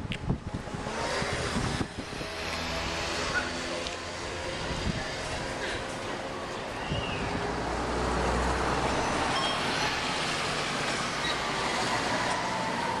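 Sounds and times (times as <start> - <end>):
street traffic noise: 0.0 - 13.0
vehicle going by: 0.4 - 13.0.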